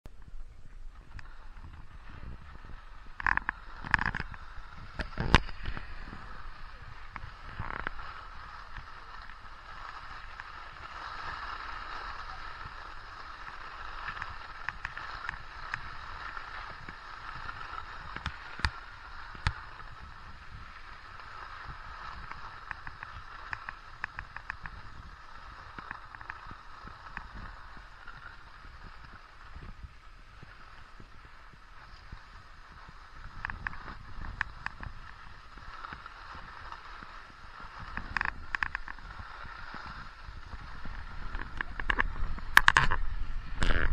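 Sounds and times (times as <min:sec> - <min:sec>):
wind rumbling on microphone: 0:00.0 - 0:43.9
skis scraping over snow: 0:00.1 - 0:43.9.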